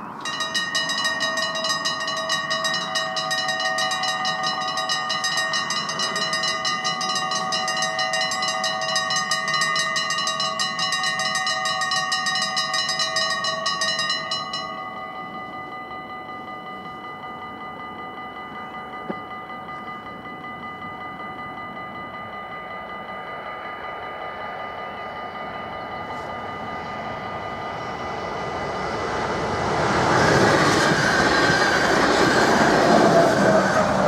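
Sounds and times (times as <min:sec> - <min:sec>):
level crossing bells ringing: 0:00.0 - 0:34.0.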